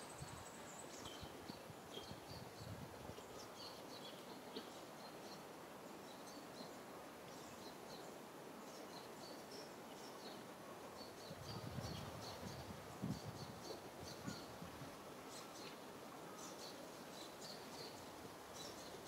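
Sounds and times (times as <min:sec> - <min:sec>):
small birds chirping: 0:00.0 - 0:14.6, 0:15.2 - 0:19.0
background hiss: 0:00.0 - 0:19.0.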